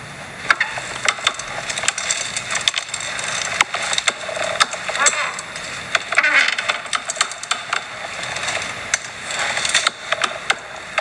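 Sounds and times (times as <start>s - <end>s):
office chair creaking: 0.5s - 11.0s.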